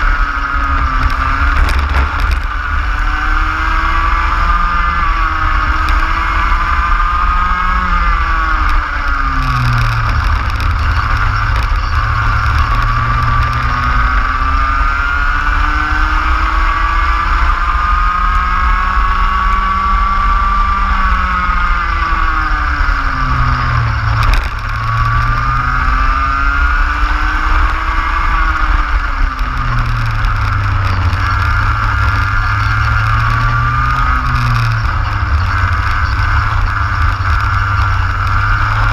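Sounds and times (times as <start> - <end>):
kart engine at full throttle: 0.0 - 38.9
wind rumble on microphone: 0.0 - 38.9.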